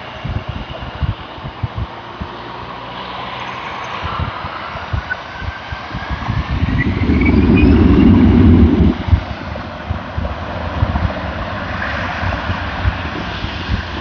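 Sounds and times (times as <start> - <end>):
jet engines at takeoff power: 0.0 - 14.0
wind buffeting microphone: 0.0 - 14.0.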